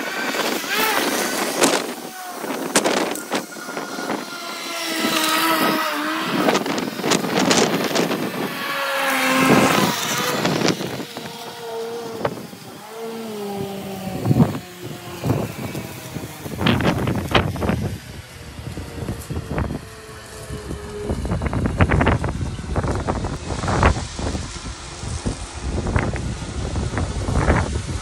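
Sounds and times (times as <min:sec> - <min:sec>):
string trimmer motor: 0:00.0 - 0:28.0.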